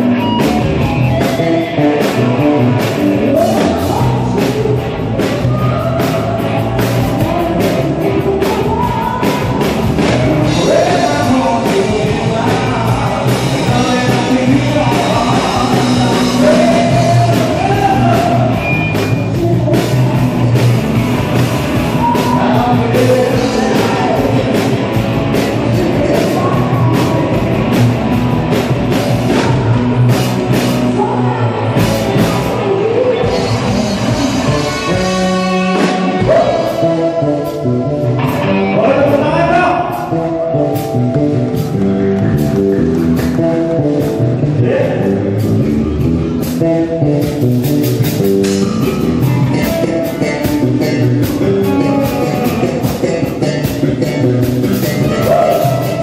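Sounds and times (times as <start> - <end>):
person singing: 0.0 - 27.8, 29.1 - 42.5, 48.1 - 56.0
live rock band playing: 0.0 - 56.0.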